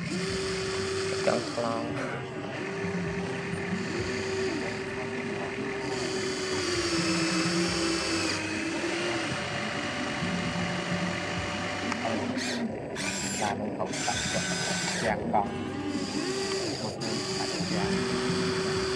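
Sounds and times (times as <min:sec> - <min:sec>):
higher motor whine: 0:00.0 - 0:18.9
small electric motors whining: 0:00.0 - 0:18.9.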